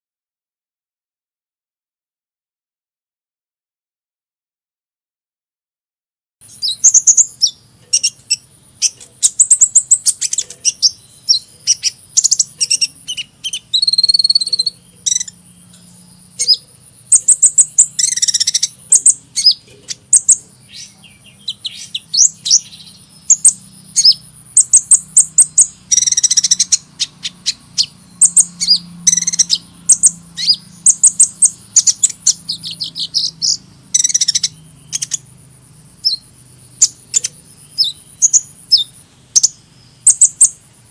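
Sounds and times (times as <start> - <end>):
sunbird chirping and trilling: 6.4 - 40.9.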